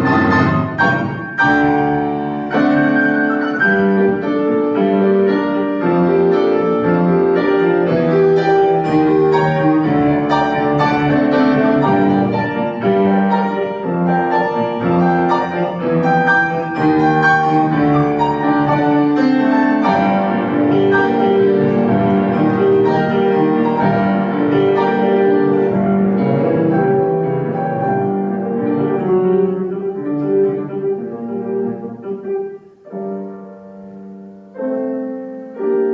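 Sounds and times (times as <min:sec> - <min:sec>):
classical piano music: 0:00.0 - 0:35.9.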